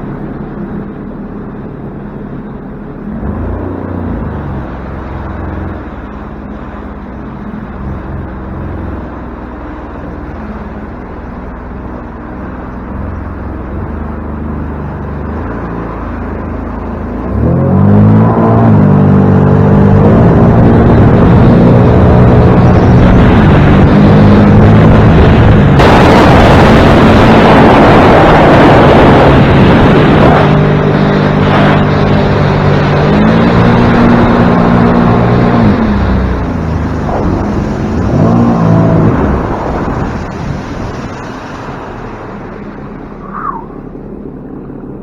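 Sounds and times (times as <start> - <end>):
watercraft engine revving: 0.0 - 45.0
rush of wind and spray: 3.1 - 44.2.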